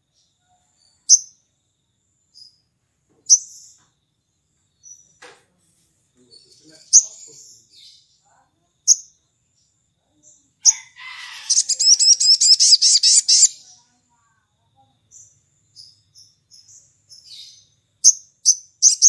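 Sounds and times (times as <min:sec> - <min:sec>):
sunbird singing: 0:00.0 - 0:05.2, 0:06.2 - 0:19.0.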